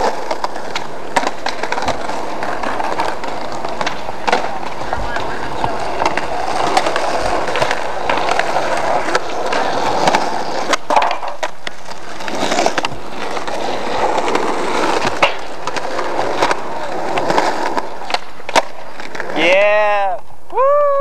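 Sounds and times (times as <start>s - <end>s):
skateboards clacking on ground: 0.0s - 20.7s
skateboard wheels rolling on concrete: 0.0s - 21.0s.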